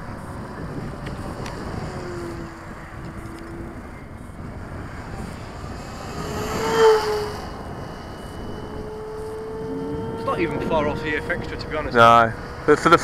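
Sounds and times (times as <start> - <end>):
model plane motor whine: 0.0 - 12.8
wind noise: 0.0 - 13.0.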